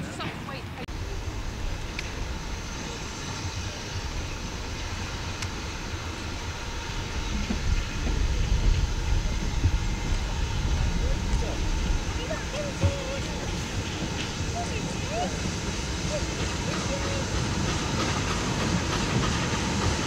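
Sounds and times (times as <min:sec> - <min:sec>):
steam locomotive rumble: 0:00.0 - 0:20.0.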